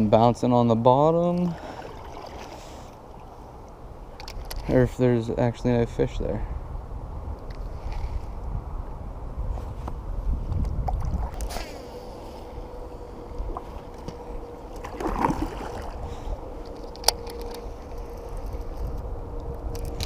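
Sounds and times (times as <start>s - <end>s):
low rumbling water: 0.0s - 5.7s, 6.5s - 20.0s
faint steady hum: 0.0s - 20.0s
wind noise: 3.8s - 20.0s.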